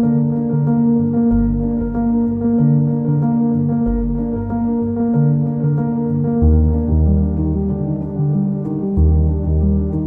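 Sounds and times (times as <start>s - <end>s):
instrumental music: 0.0s - 10.0s
deep bass note: 1.1s - 10.0s.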